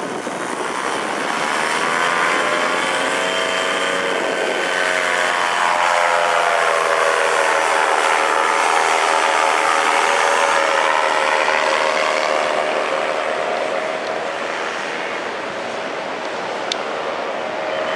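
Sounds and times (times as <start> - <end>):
paramotor engine and propeller: 0.0 - 17.9.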